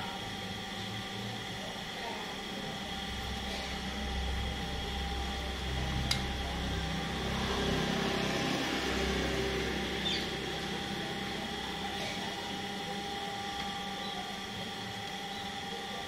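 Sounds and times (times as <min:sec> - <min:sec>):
faint steady whine: 0:00.0 - 0:16.0
low electrical hum: 0:00.0 - 0:16.0.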